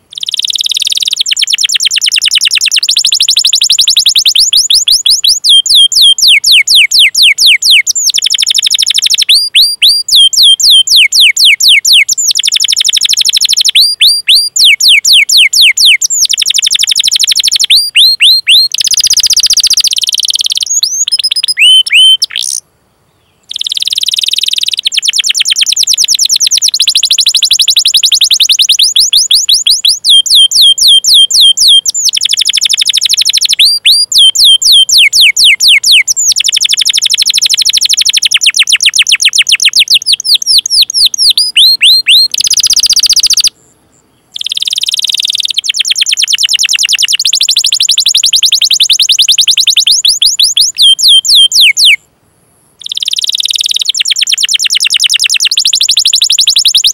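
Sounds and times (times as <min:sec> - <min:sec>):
canary trilling: 0:00.0 - 0:22.6, 0:23.5 - 0:43.5, 0:44.4 - 0:52.0, 0:52.8 - 0:56.9.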